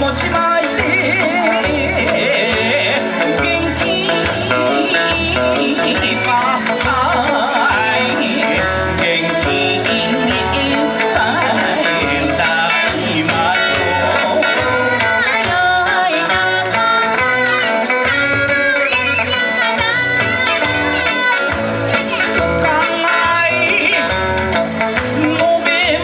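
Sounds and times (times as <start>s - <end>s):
person singing: 0.0s - 26.0s
plucked guitar: 0.0s - 26.0s
steady drum beat: 0.0s - 26.0s.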